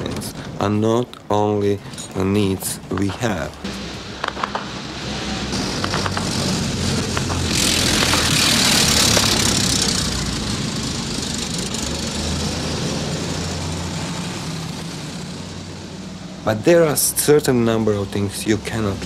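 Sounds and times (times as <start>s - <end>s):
engine humming: 0.0s - 19.0s
rush of noise: 1.8s - 17.4s.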